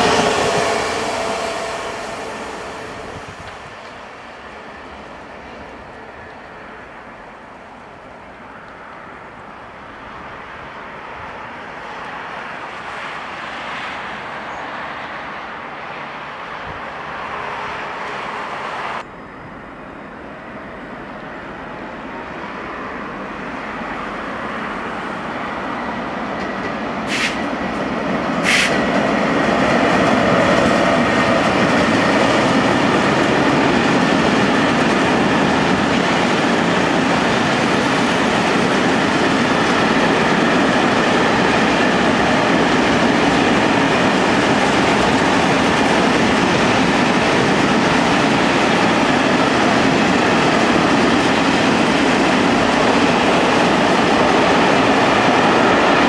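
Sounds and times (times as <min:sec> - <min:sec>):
freight train wheels rumbling on rails: 0:00.0 - 0:56.0
train approaching: 0:00.0 - 0:56.0.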